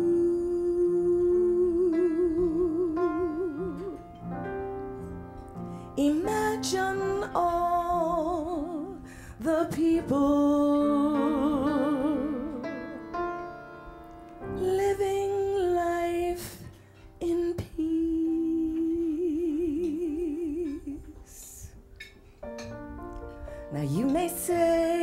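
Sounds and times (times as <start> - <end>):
woman singing a slow ballad: 0.0 - 4.4, 5.6 - 13.1, 14.4 - 21.9, 23.4 - 25.0
quiet instrumental accompaniment: 0.0 - 25.0.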